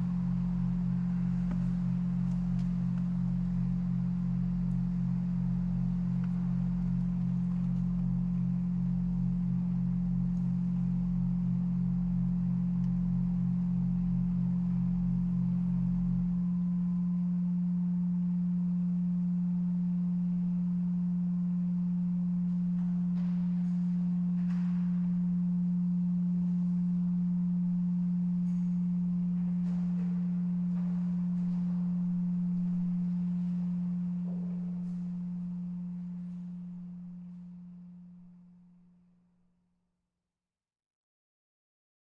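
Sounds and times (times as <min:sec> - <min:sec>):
pipe organ low tone: 0:00.0 - 0:38.6.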